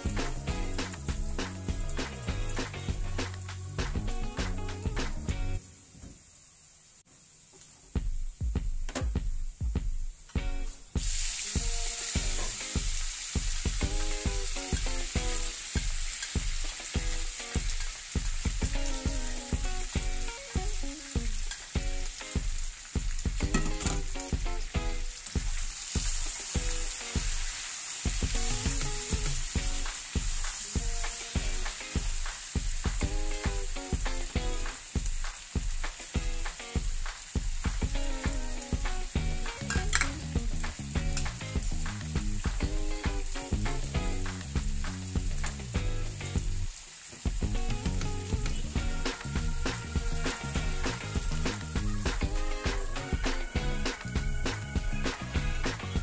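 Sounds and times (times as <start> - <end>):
background music with steady beat: 0.0 - 5.6, 7.9 - 46.6, 47.3 - 56.0
meat sizzling in a hot pan: 0.0 - 7.7, 10.4 - 56.0.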